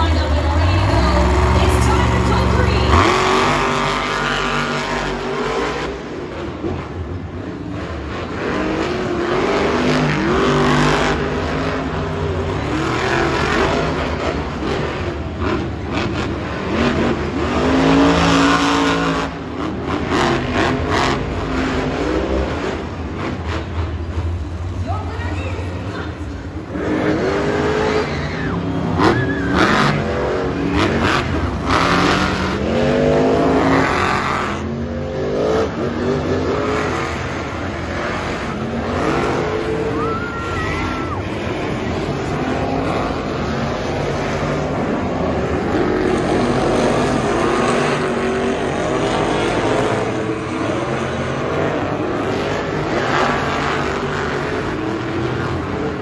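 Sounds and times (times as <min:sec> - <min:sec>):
monster truck engines revving: 0:00.0 - 0:56.0
steady engine din: 0:00.0 - 0:56.0.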